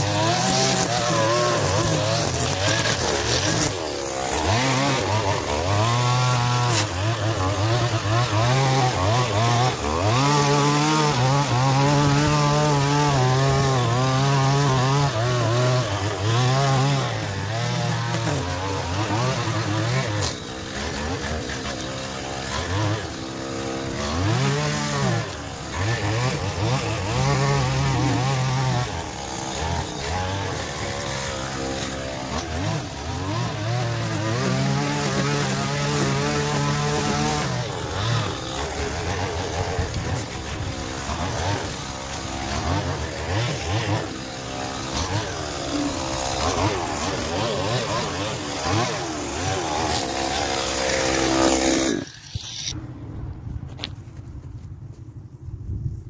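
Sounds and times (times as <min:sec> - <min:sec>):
string trimmer engine revving: 0:00.0 - 0:52.8.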